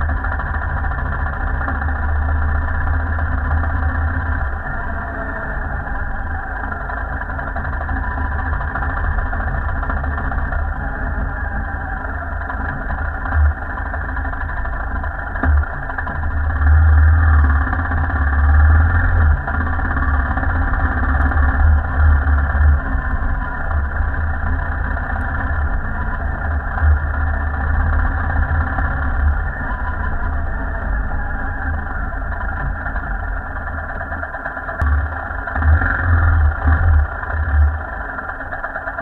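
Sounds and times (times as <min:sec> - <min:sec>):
heavy low rumble: 0:00.0 - 0:39.0
motorcycle engine running: 0:00.0 - 0:39.0.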